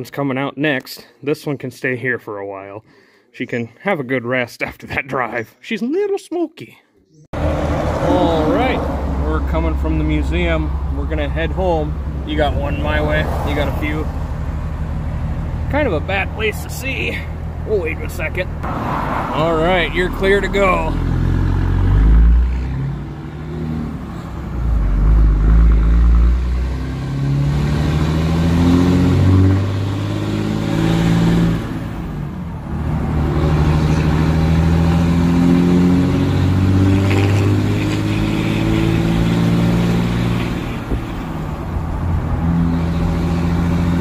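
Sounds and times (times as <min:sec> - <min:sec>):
diesel engine accelerating: 0:07.4 - 0:44.0.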